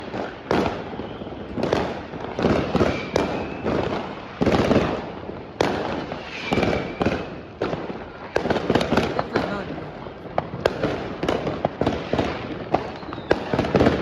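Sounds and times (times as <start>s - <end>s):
faint firework whistle: 0.0s - 5.0s, 5.6s - 9.2s, 11.2s - 14.0s
fireworks bangs: 0.0s - 14.0s.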